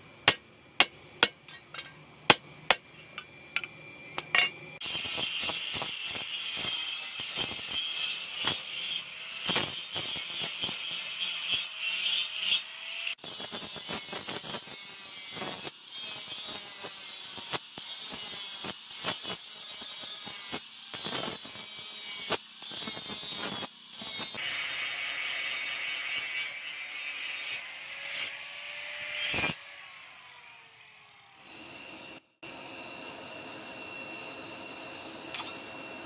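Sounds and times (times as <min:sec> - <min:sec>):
angle grinder grinding steel: 0:00.2 - 0:31.1.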